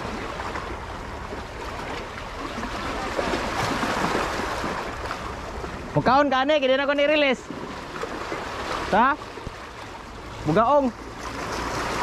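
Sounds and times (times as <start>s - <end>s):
water lapping: 0.0s - 12.0s.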